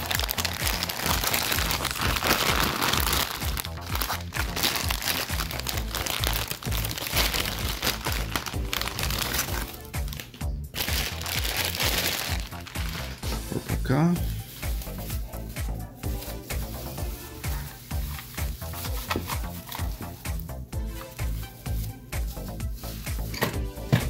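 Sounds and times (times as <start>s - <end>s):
packaging crinkling: 0.0s - 13.4s, 14.2s - 20.4s
background music with bass beat: 0.0s - 24.0s.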